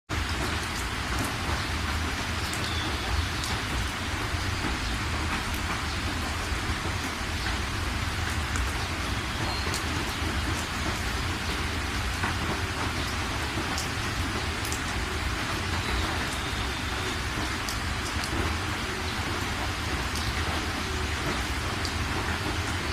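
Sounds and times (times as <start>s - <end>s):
raindrops ticking: 0.1s - 22.9s
steady rain hiss: 0.1s - 22.9s.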